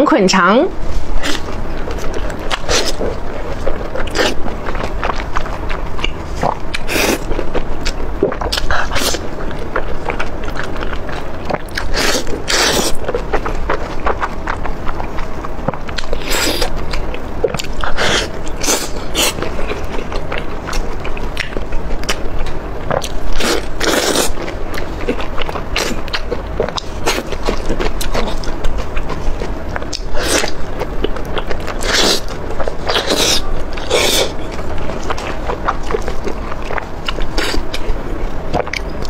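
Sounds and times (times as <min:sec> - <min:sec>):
wet chewing and sucking: 0:00.9 - 0:39.0.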